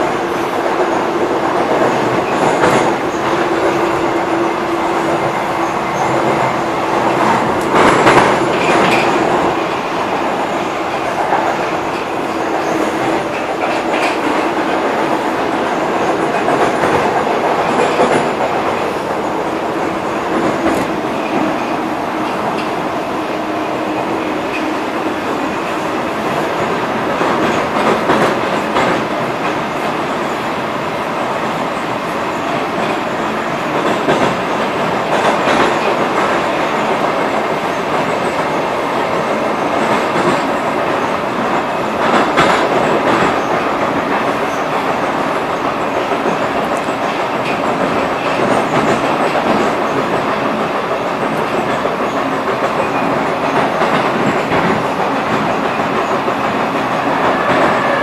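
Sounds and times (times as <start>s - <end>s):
wheel clatter on rails: 0.0s - 23.1s, 31.2s - 58.0s
metro train rush and rumble: 0.0s - 58.0s.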